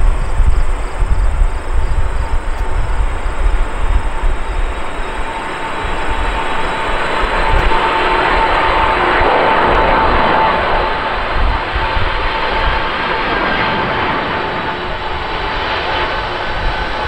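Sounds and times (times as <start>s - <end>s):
jet engines rushing: 0.0s - 17.0s
jet fan whine: 0.0s - 17.0s.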